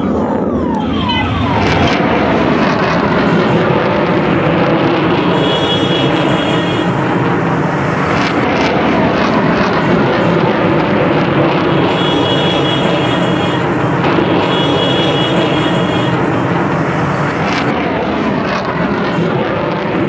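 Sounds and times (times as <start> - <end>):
jet engines roaring overhead: 0.0 - 20.0.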